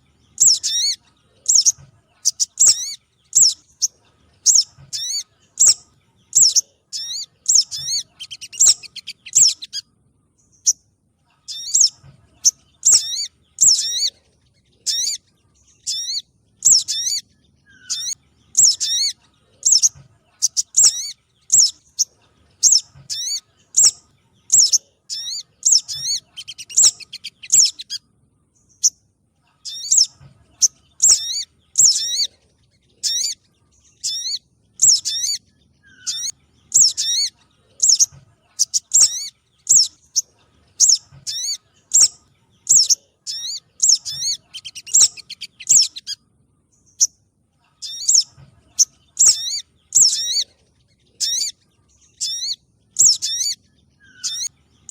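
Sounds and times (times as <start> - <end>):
high bird chirps: 0.0 - 54.9.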